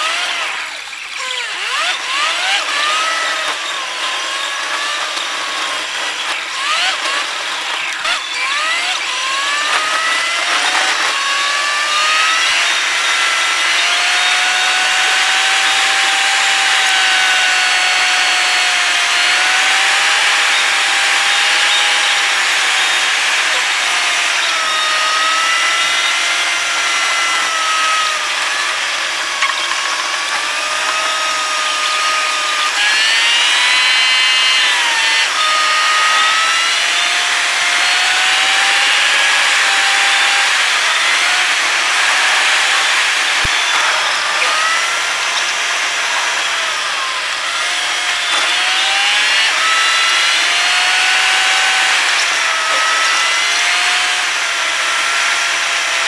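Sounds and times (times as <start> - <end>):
car engine whine: 0.0 - 56.0.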